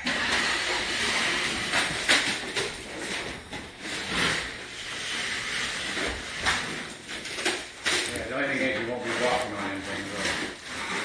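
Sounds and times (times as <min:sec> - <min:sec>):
hand tool scraping a surface: 0:00.0 - 0:11.0.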